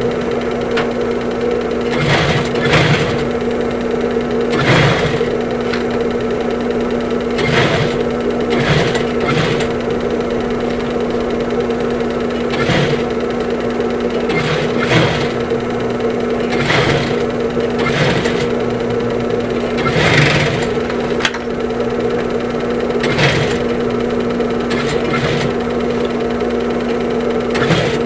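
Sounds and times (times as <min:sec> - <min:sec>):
sewing machine stitching: 0:00.0 - 0:28.0.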